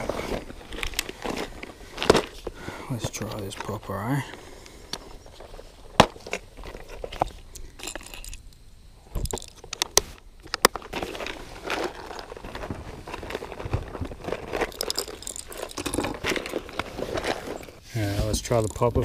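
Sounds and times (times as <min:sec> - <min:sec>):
rustling and rattling handling: 0:00.0 - 0:08.4, 0:09.1 - 0:19.0.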